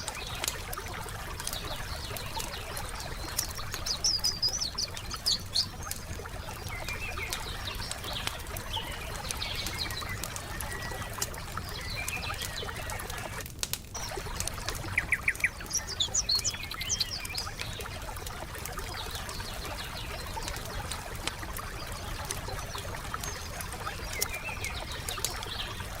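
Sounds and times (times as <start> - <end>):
songbirds chirping: 0.0 - 13.4, 14.0 - 26.0
wood fire crackling and popping: 0.0 - 26.0.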